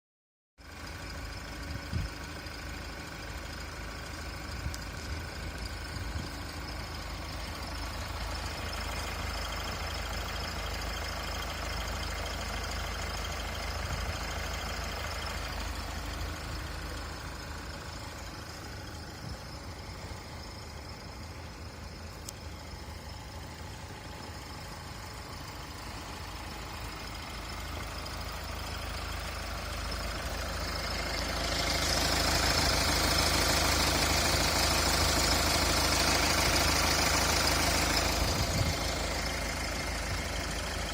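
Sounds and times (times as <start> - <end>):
engine idling: 0.6 - 40.9.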